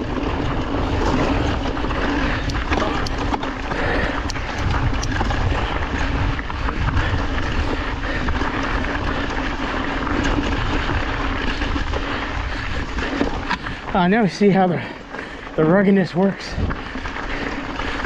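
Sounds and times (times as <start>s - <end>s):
wind rumble on microphone: 0.0s - 14.0s, 16.4s - 18.0s
bike clicks and rattles: 0.0s - 18.0s
bike tyre noise: 0.0s - 18.0s.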